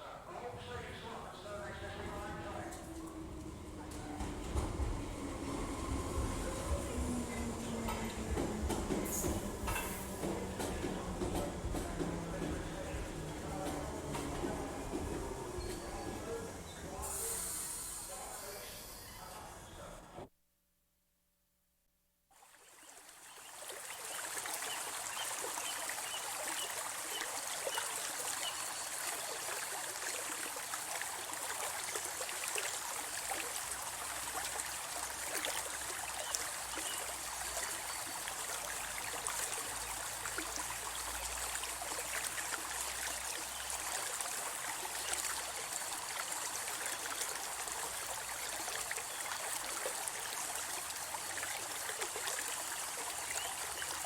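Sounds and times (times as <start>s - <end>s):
brook trickling over stones: 0.4s - 16.9s, 22.3s - 54.0s.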